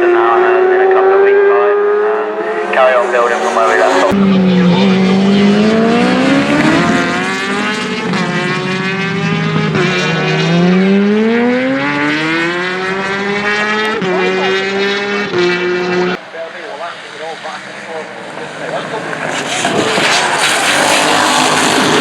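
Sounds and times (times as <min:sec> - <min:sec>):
racing engines at full throttle: 0:00.0 - 0:22.0.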